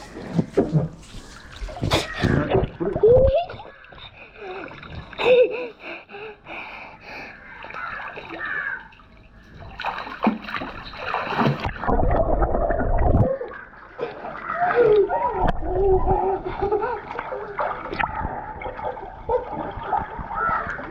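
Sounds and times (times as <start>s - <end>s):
water splashing in a pool: 0.0s - 6.2s, 7.3s - 20.9s.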